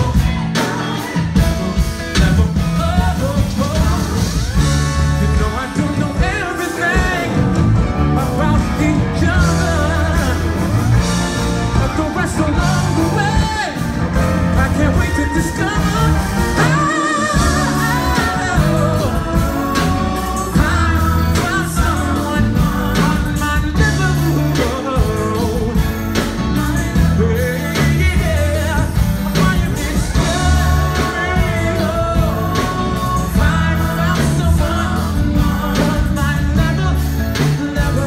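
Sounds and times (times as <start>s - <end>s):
bass line: 0.0s - 38.0s
drums: 0.0s - 38.0s
man singing with vibrato: 0.0s - 38.0s.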